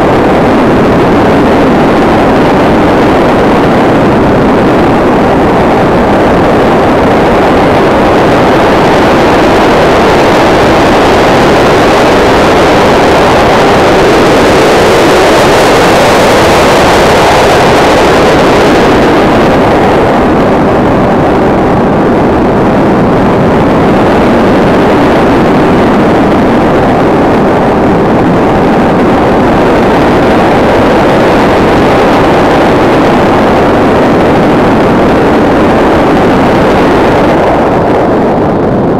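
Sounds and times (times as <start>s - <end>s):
air rushing over camera: 0.0s - 38.9s.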